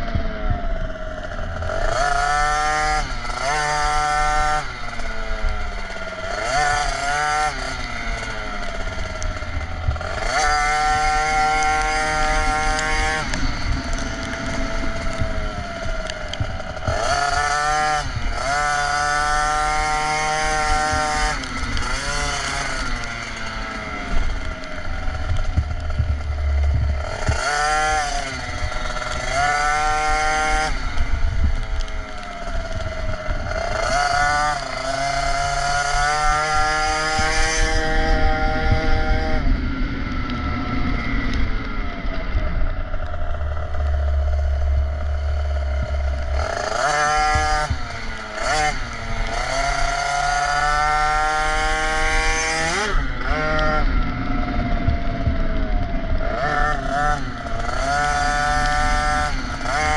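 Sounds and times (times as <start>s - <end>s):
two-stroke motorbike engine revving: 0.0s - 59.9s.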